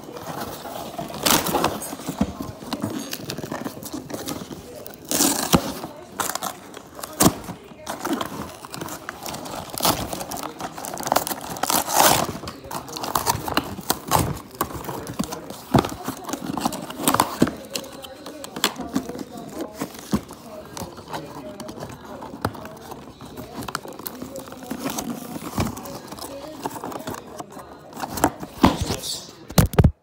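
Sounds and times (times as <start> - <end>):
plastic and cardboard crinkling: 0.0 - 30.0.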